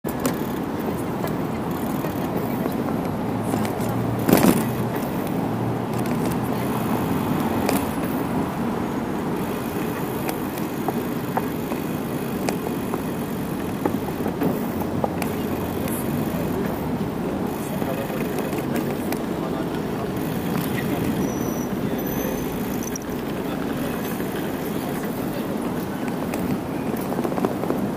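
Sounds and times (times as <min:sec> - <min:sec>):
city road traffic: 0:00.0 - 0:27.9.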